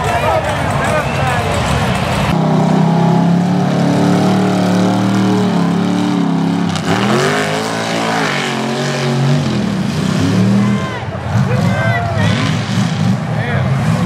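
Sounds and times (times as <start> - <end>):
truck engine revving hard: 0.2 - 14.0.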